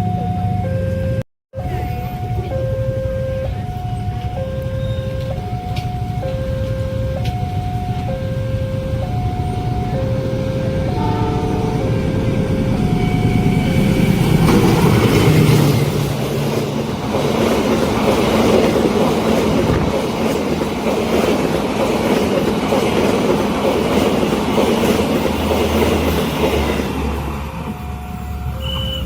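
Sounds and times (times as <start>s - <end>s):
train wheels rumbling on rails: 3.4s - 29.0s.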